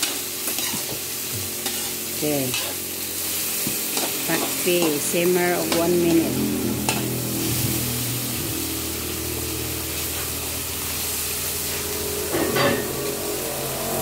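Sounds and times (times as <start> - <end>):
chicken sizzling in a wok: 0.0 - 14.0.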